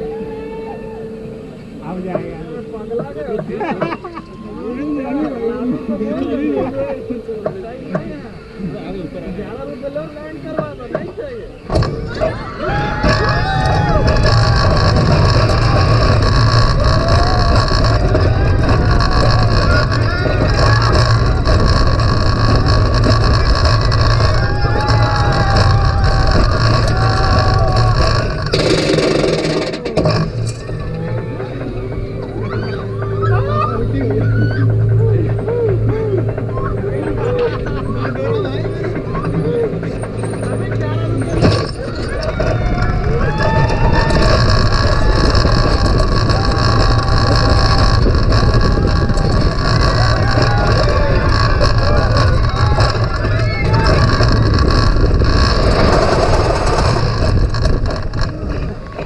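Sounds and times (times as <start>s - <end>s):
roller coaster rumbling on track: 0.0s - 59.0s
riders shouting and laughing: 3.1s - 7.0s, 11.8s - 29.8s, 30.6s - 59.0s
wind rushing over microphone: 11.7s - 59.0s.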